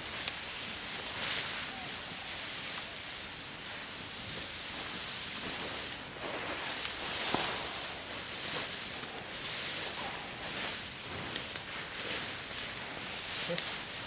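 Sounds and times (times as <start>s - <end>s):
dry rice plants rustling: 0.0s - 14.0s.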